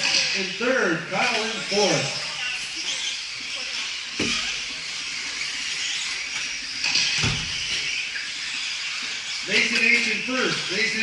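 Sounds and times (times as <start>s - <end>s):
rc truck motors hissing: 0.0s - 11.0s.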